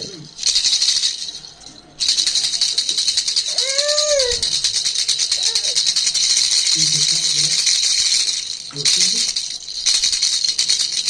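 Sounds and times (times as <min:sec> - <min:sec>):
baby rattle bells jingling: 0:00.0 - 0:11.0.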